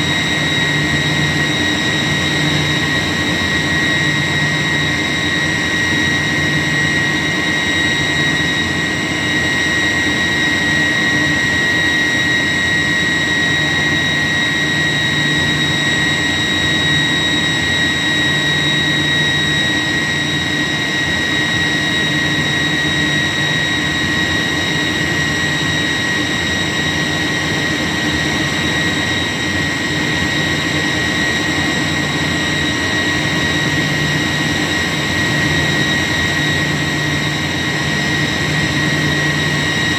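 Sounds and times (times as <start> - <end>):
chiller high whine: 0.0 - 39.9
machine rush and low hum: 0.0 - 39.9.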